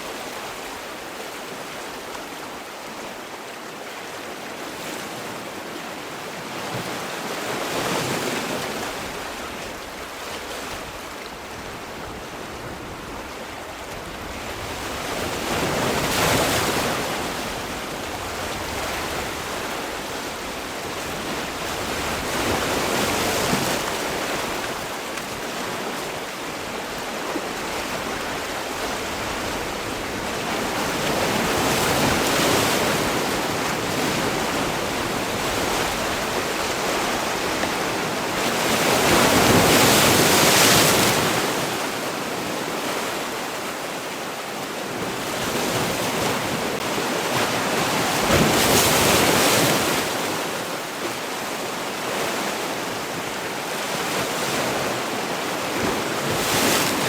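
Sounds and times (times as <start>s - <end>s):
waves breaking: 0.0s - 57.0s.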